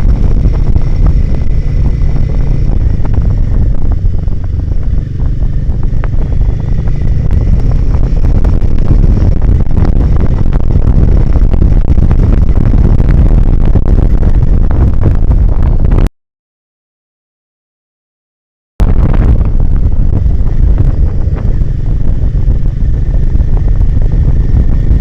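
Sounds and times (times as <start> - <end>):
motorcycle engine: 0.0 - 16.1, 18.8 - 25.0
wind buffeting microphone: 0.0 - 16.1, 18.8 - 25.0.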